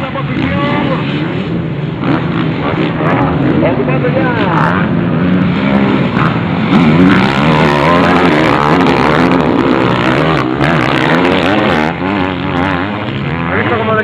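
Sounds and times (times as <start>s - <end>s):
motorbike engines revving: 0.0s - 14.0s.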